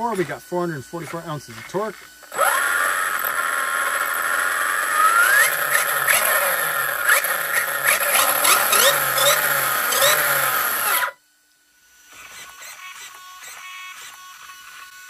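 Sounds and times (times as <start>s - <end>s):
electric motor whining: 1.0s - 11.2s, 12.0s - 15.0s.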